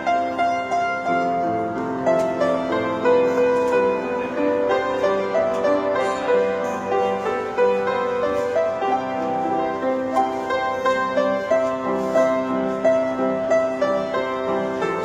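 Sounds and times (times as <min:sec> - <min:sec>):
piano melody over chords: 0:00.0 - 0:15.0.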